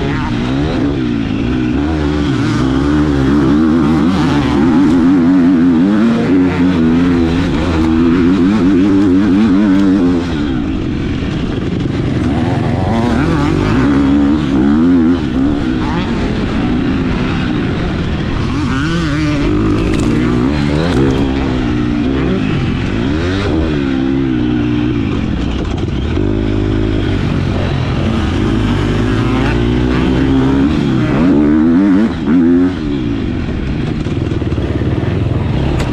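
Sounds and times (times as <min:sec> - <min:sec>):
motocross bike engine revving: 0:00.0 - 0:35.9.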